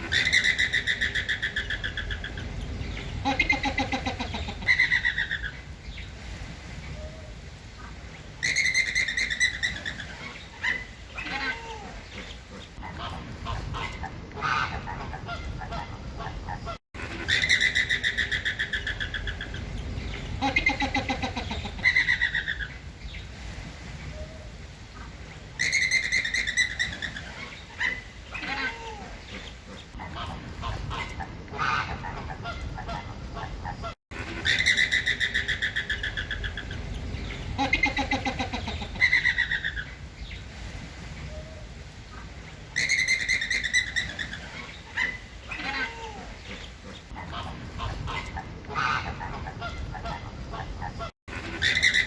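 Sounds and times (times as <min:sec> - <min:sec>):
flamingos honking: 0:00.0 - 0:05.8, 0:07.8 - 0:22.8, 0:24.9 - 0:40.1, 0:41.2 - 0:52.0.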